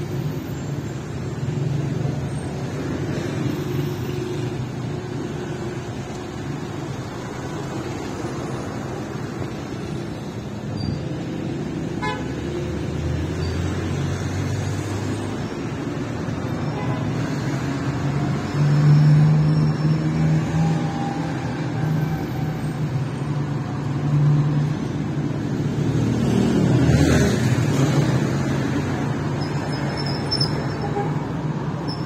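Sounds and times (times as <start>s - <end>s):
traffic engine hum: 0.0s - 32.0s.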